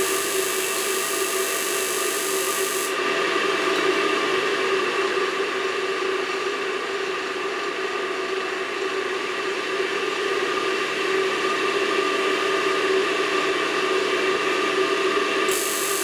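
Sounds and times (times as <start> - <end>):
boiler fan whirring: 0.0 - 16.0.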